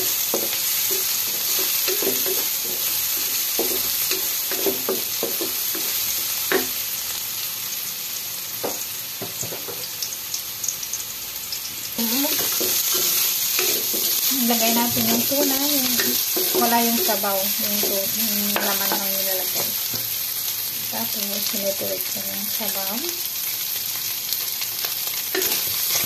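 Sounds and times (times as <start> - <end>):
garlic sizzling in hot oil: 0.0 - 26.0.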